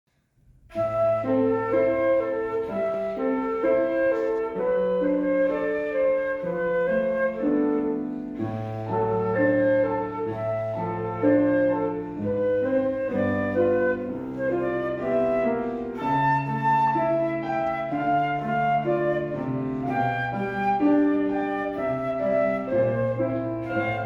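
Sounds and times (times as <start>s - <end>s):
flute melody: 0.7s - 24.0s
piano accompaniment: 0.7s - 24.0s.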